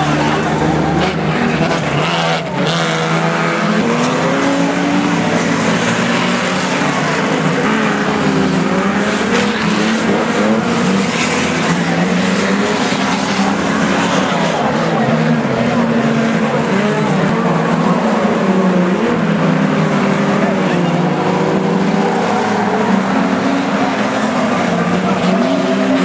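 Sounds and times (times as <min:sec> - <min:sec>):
car engines revving hard: 0:00.0 - 0:26.0.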